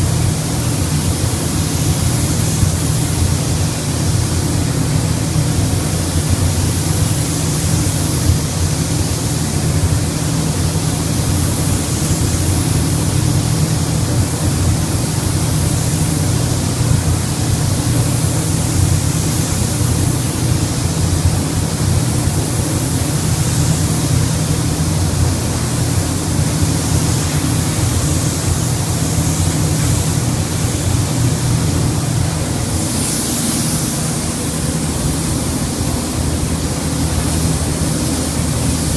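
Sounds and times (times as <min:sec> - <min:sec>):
spray gun hissing: 0:00.0 - 0:38.9.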